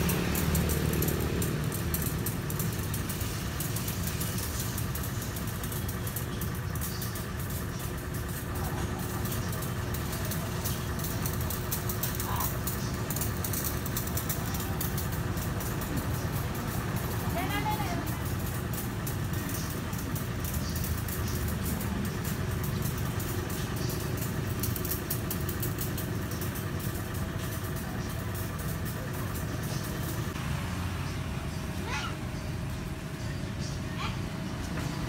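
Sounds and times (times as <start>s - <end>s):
pressure washer motor humming: 0.0s - 35.0s.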